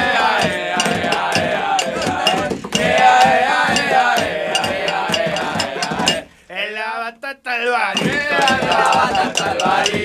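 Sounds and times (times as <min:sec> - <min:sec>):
group of voices chanting: 0:00.0 - 0:06.3, 0:08.0 - 0:10.0
percussion with sharp clicks: 0:00.0 - 0:06.3, 0:08.0 - 0:10.0.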